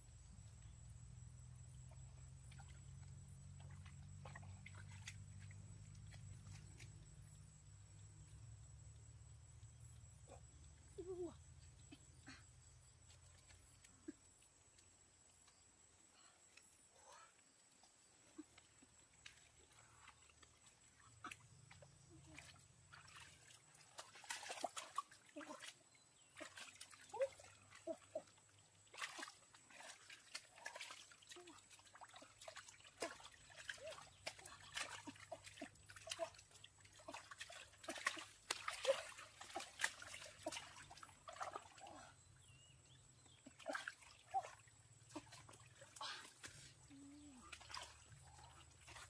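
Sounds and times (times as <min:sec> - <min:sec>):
water splashing and trickling: 0:00.0 - 0:49.0.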